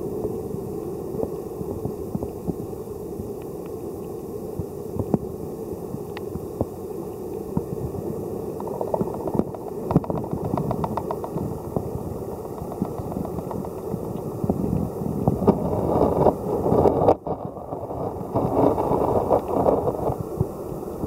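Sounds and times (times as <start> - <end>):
underwater rumble of moving water: 0.0 - 21.0
underwater clicks and crackles: 3.3 - 5.3, 5.9 - 21.0.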